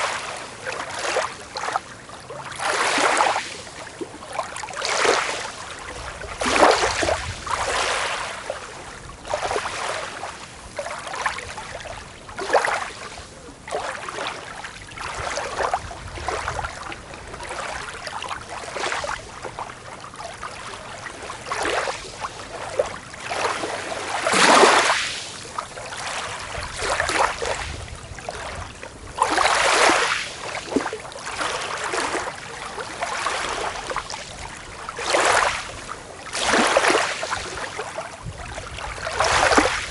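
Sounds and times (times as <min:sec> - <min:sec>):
small waves washing onto beach: 0:00.0 - 0:39.9.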